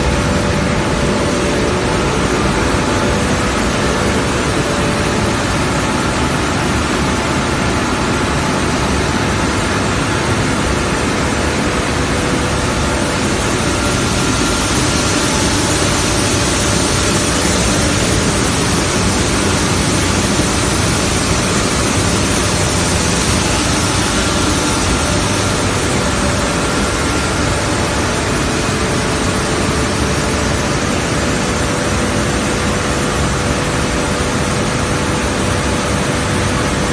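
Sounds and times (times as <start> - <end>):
machinery hissing and humming: 0.0 - 36.9.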